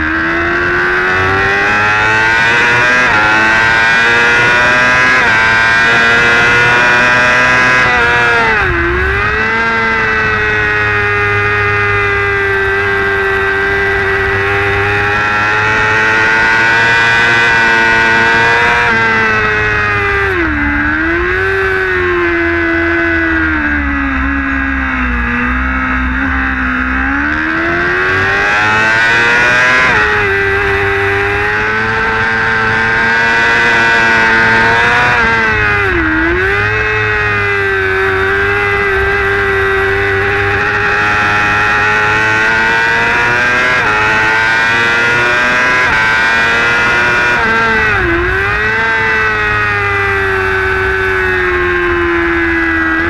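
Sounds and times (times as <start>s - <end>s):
motorcycle engine at high revs: 0.0s - 53.0s
wind and road noise: 0.0s - 53.0s.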